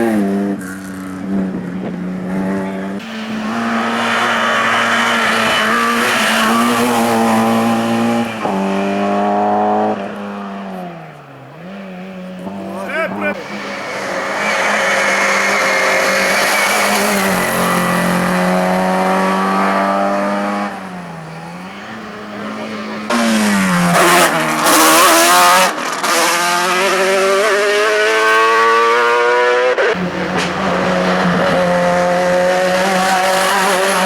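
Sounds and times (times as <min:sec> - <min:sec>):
racing car engine revving: 0:00.0 - 0:34.0.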